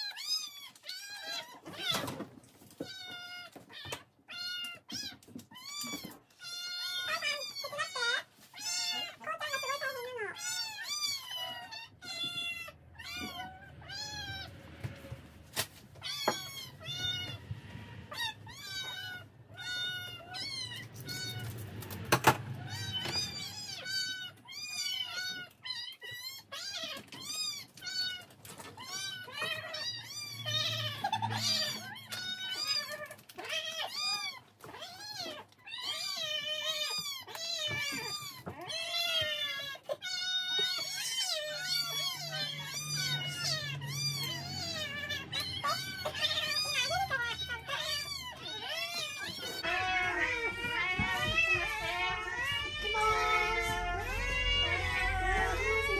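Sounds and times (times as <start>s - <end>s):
cats meowing: 0.0s - 55.9s.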